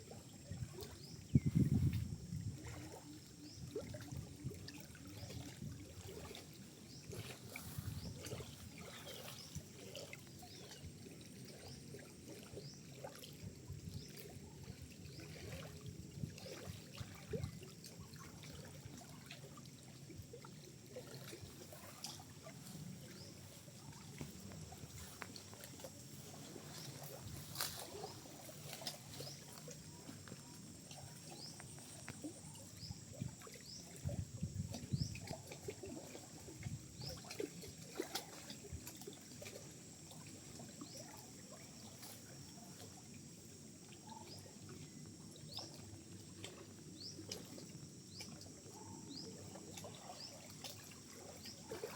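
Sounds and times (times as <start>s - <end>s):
water trickling over stones: 0.0s - 51.9s.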